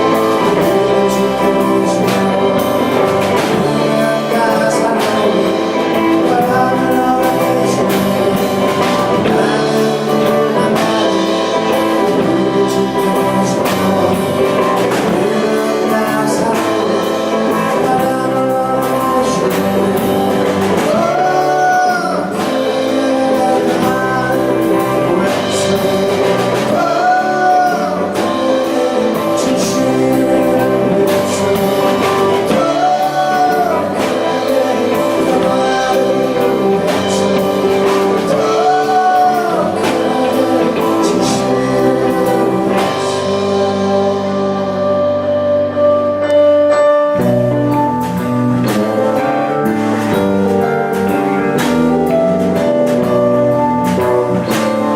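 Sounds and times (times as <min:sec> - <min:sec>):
steady drum beat: 0:00.0 - 0:45.3, 0:47.2 - 0:54.9
guitar: 0:00.0 - 0:54.9
person singing: 0:00.0 - 0:54.9.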